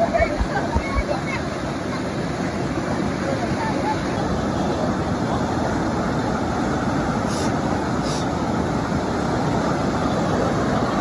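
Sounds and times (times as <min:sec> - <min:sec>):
stream rushing over boulders: 0:00.0 - 0:11.0.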